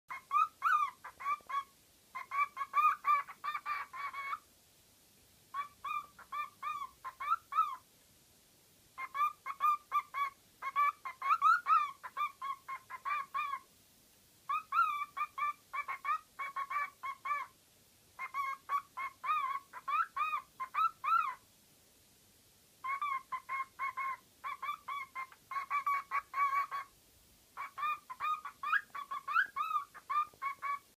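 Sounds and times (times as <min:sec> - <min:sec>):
pet bird calling: 0:00.1 - 0:04.4, 0:05.5 - 0:07.8, 0:09.0 - 0:13.6, 0:14.5 - 0:17.5, 0:18.2 - 0:21.4, 0:22.8 - 0:26.9, 0:27.6 - 0:30.9.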